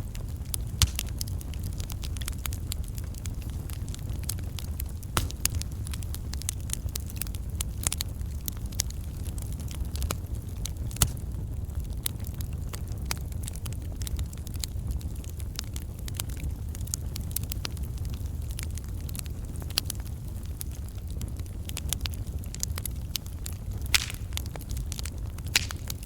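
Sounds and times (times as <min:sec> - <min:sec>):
burning logs crackling and popping: 0:00.0 - 0:26.0
campfire rumble: 0:00.0 - 0:26.0.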